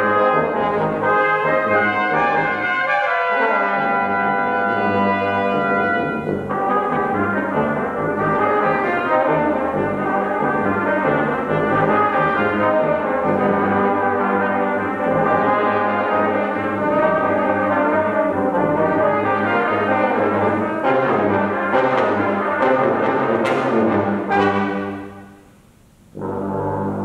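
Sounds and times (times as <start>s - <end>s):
brass quintet playing classical piece: 0.0s - 27.0s.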